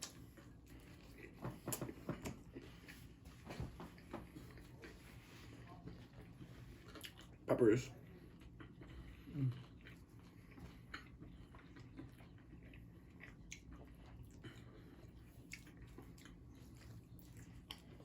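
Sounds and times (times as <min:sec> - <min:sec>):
chewing soft food: 0:00.0 - 0:18.0.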